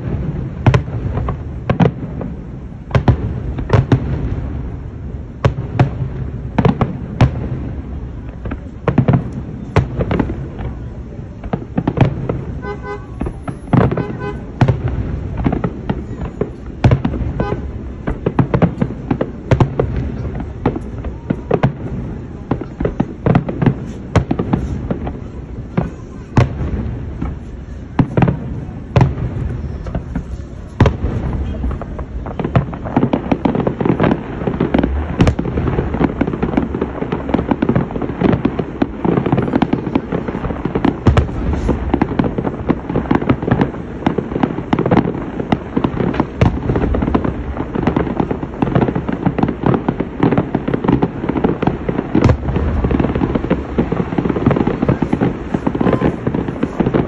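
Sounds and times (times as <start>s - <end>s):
fireworks bursting and crackling: 0.0s - 57.0s
sharp firework bangs: 0.0s - 57.0s.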